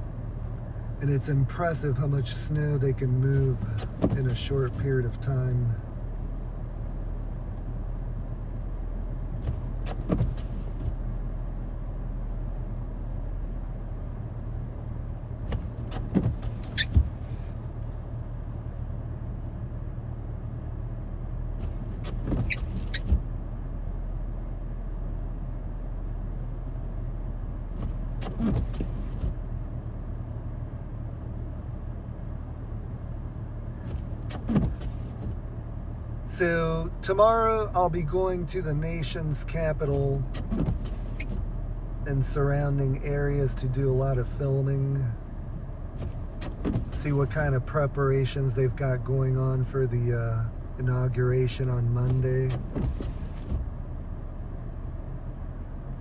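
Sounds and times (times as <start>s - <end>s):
idling vehicle hum: 0.0s - 56.0s.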